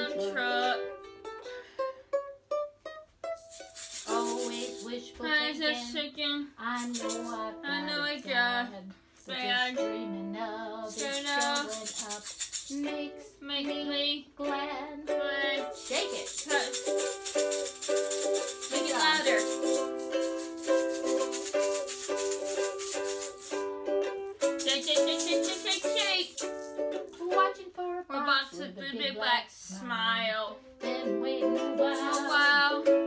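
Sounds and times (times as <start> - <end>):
ukulele strumming: 0.0 - 29.3, 30.5 - 33.0.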